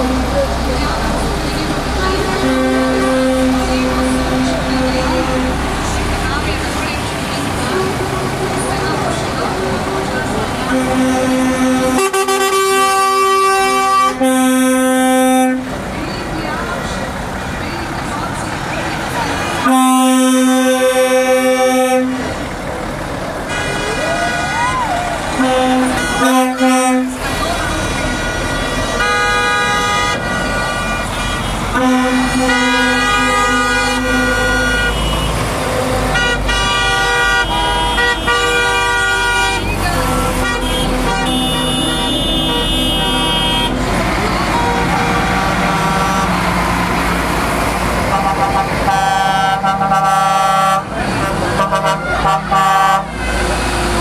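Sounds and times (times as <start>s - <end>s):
truck air horn blasts: 0.0s - 6.5s, 10.5s - 15.8s, 19.4s - 22.5s, 23.4s - 47.2s, 48.0s - 54.0s
diesel engine running: 0.0s - 54.0s.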